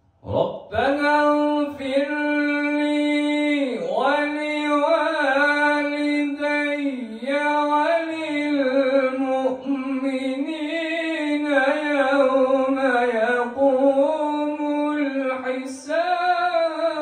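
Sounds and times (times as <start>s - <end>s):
man reciting melodically: 0.2s - 17.0s.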